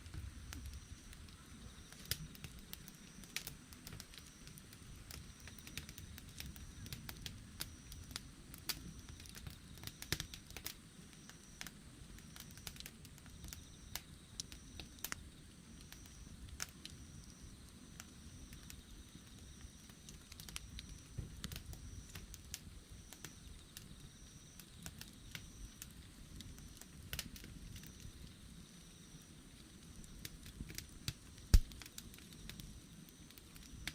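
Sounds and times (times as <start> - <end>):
campfire crackling and popping: 0.0 - 33.9
low rumble of flames: 0.0 - 33.9.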